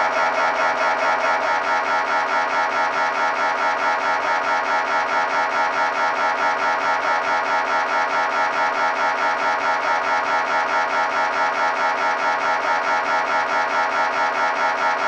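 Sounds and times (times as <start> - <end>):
mri scanner pulsing buzz: 0.0 - 15.0.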